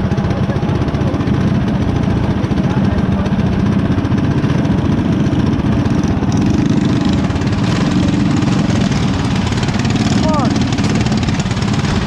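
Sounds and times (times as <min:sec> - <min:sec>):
small engines idling: 0:00.0 - 0:12.0.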